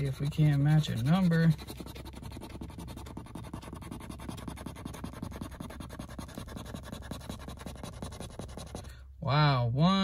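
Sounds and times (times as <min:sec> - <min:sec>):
scratching lottery ticket: 0:00.0 - 0:08.9.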